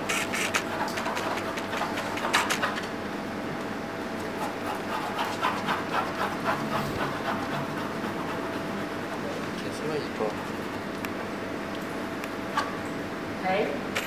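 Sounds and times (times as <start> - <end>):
steady room hum: 0.0 - 14.0.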